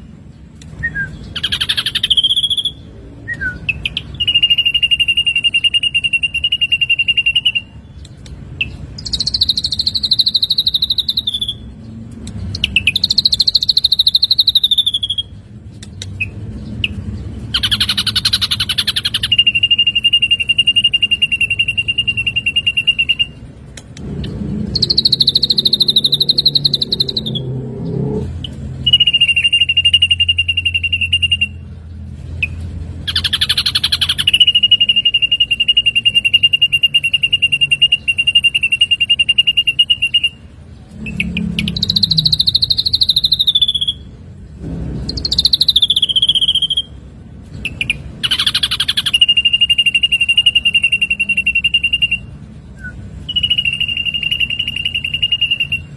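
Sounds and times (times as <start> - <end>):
bird singing buzzy trills: 0.0 - 55.9.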